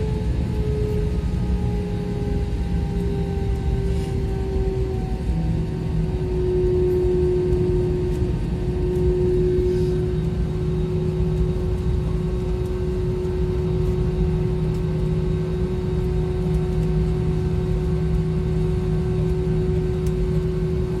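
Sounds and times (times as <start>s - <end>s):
constant humming tone: 0.0s - 21.0s
jet engines roaring in cabin: 0.0s - 21.0s.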